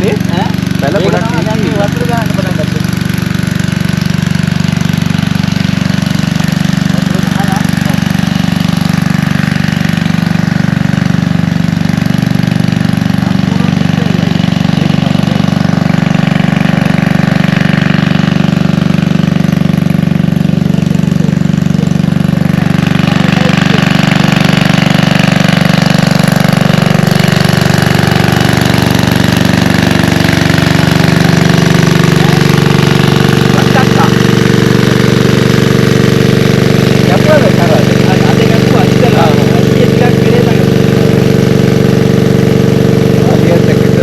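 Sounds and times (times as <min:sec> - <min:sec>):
engine running steadily: 0:00.0 - 0:44.0.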